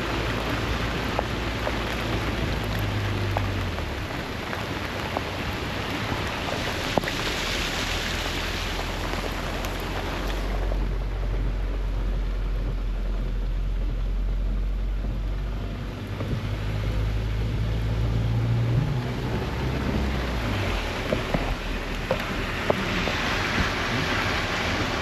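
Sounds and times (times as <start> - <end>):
rain: 0.0 - 25.0
sharp raindrop ticks: 0.0 - 25.0
wind: 0.0 - 25.0.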